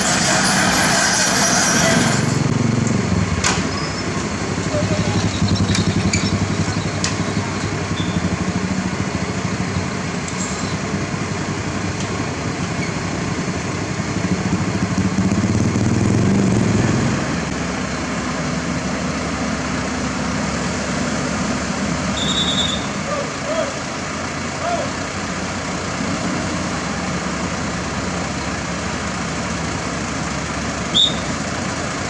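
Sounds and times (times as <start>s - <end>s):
heavy machinery diesel engines: 0.0s - 32.0s.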